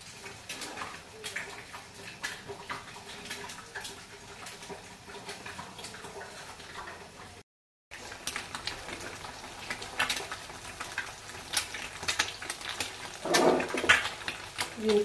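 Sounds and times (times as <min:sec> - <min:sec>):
eggs frying in oil: 0:00.0 - 0:15.0.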